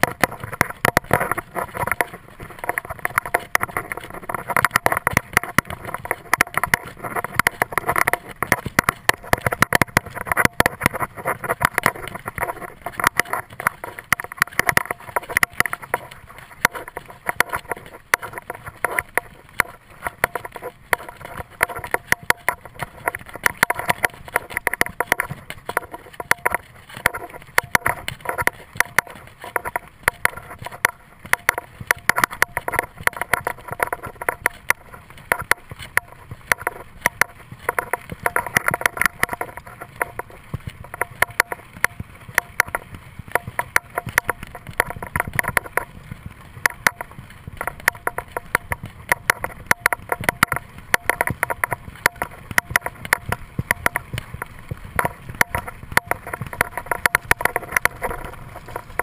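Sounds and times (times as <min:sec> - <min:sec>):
bicycle rattling on bumpy trail: 0:00.0 - 0:59.0.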